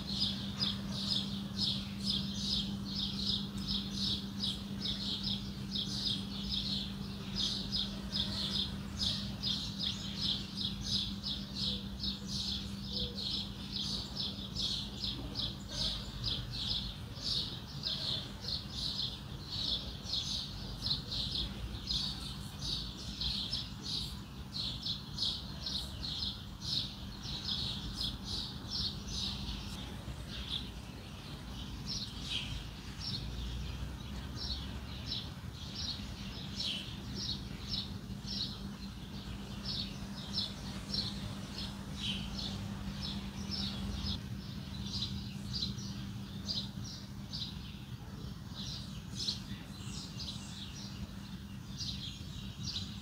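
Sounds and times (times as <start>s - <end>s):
small birds chirping: 0.0s - 53.0s
steady low hum: 0.0s - 53.0s.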